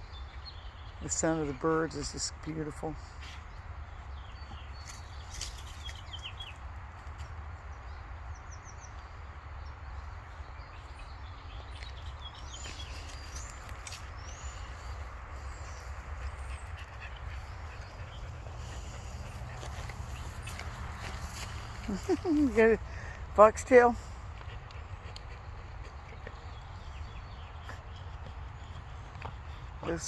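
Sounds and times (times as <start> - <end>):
wild birds chirping: 0.0 - 30.0.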